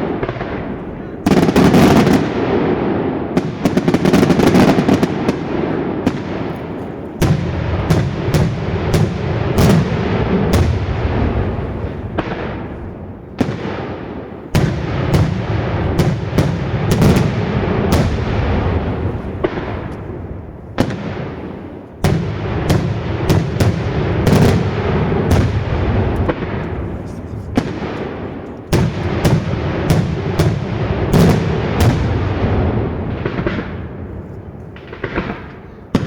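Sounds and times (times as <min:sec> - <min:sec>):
rumble of echoing booms: 0:00.0 - 0:34.1
fireworks sharp bangs: 0:00.0 - 0:36.0.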